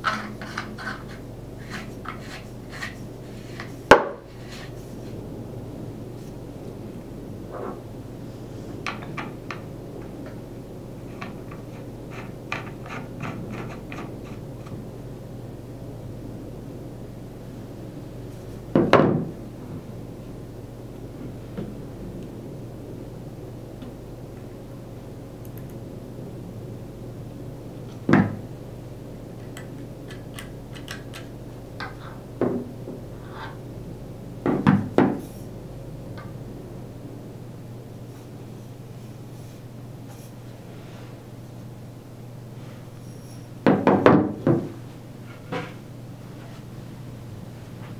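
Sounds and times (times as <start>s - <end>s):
low hum: 0.0s - 43.6s.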